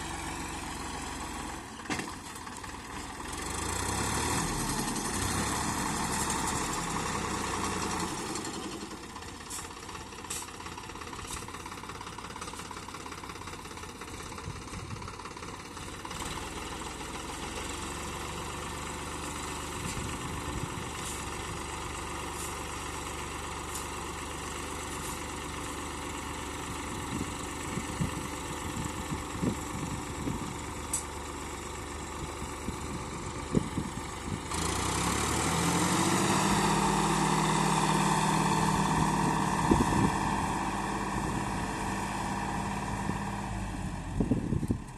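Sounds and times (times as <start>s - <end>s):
tractor diesel engine at low revs: 0.0s - 44.9s.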